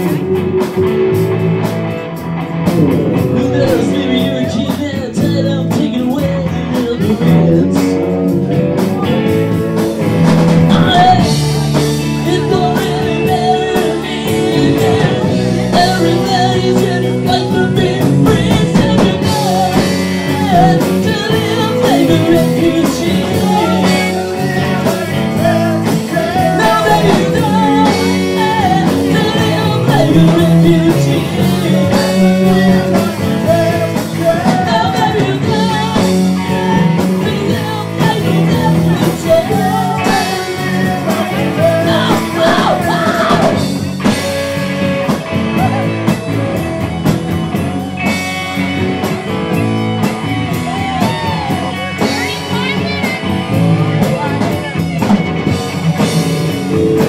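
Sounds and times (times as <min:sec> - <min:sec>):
person singing: 0:00.0 - 0:46.9, 0:47.5 - 0:57.0
drums: 0:00.0 - 0:57.0
electric guitar: 0:00.0 - 0:57.0.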